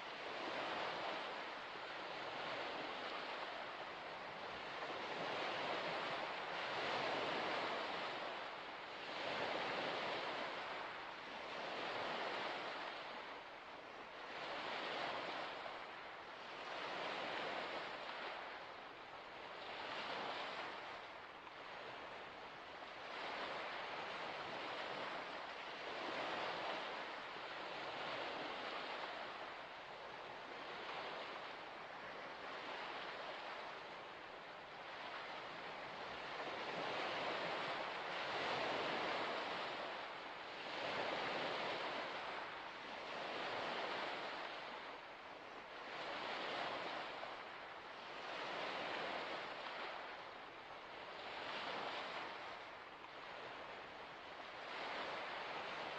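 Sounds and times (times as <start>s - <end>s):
waves washing onto shore: 0.0s - 55.9s.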